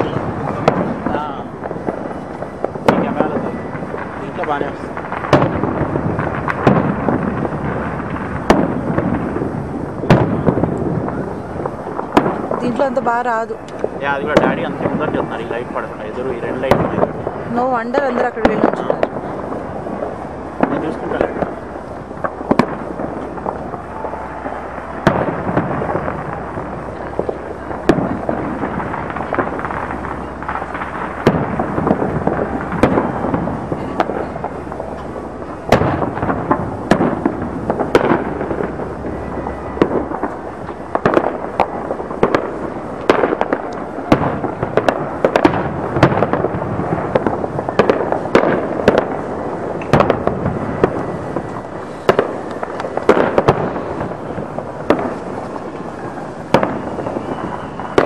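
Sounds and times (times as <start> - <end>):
continuous rumble: 0.0 - 58.0
fireworks bangs: 0.0 - 58.0.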